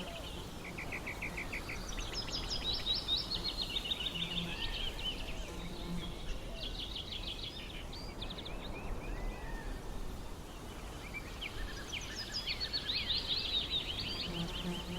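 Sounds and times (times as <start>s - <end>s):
low outdoor background noise: 0.0s - 14.9s
songbirds chirping: 0.0s - 14.9s.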